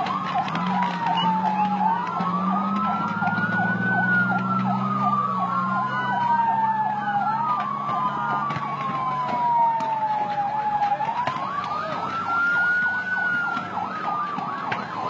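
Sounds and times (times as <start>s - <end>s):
siren wailing: 0.0s - 15.0s
siren yelping: 0.0s - 15.0s.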